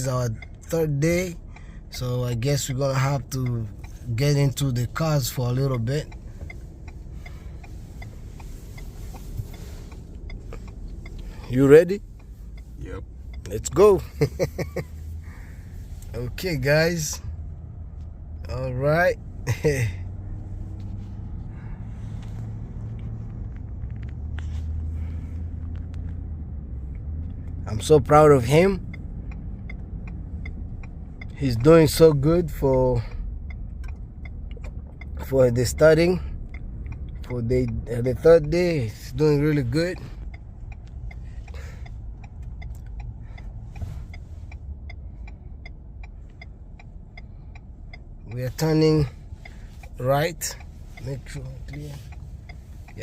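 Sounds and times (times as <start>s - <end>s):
road noise: 0.0s - 53.0s
turn signal ticking: 0.0s - 53.0s.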